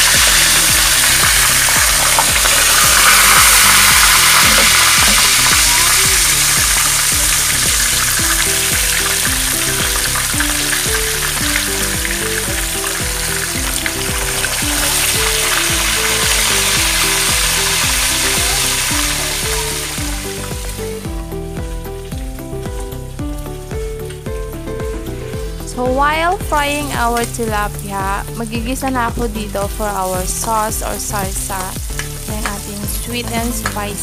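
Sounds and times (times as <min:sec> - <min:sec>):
background music: 0:00.0 - 0:34.0
fish sizzling in hot oil: 0:00.0 - 0:34.0.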